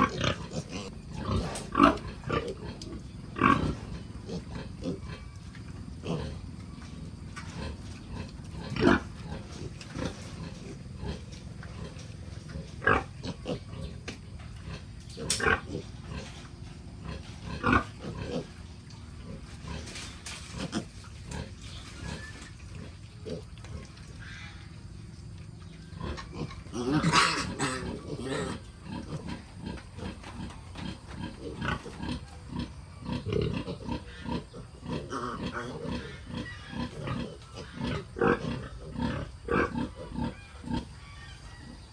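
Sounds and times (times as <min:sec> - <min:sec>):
pigs grunting and squealing: 0:00.0 - 0:41.9.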